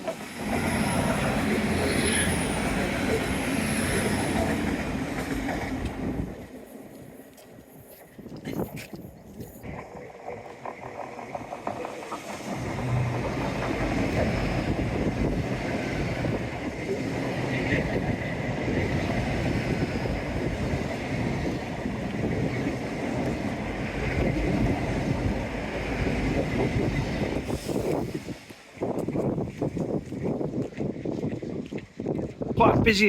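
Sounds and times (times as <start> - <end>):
train rumbling past: 0.0 - 8.1, 9.4 - 30.5.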